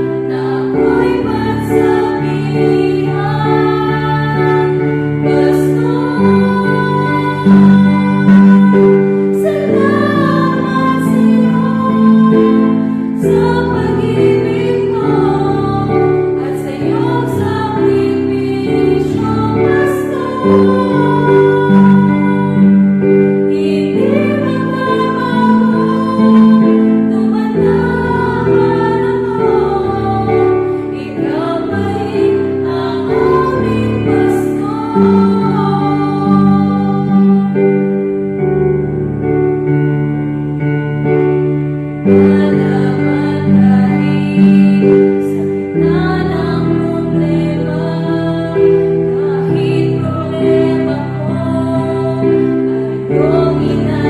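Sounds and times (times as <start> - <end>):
voices singing worship song: 0.0 - 38.3, 42.0 - 54.0
instrumental accompaniment: 0.0 - 54.0.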